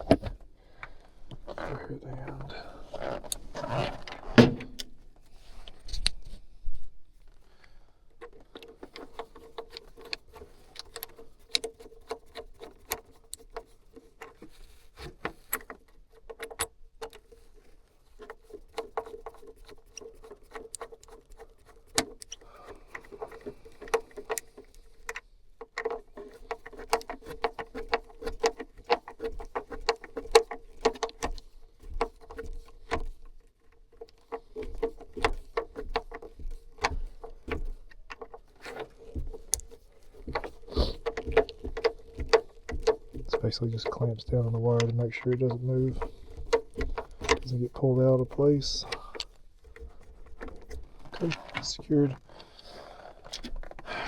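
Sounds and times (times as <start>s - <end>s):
metallic clicks and rattles of tools: 8.2s - 52.1s.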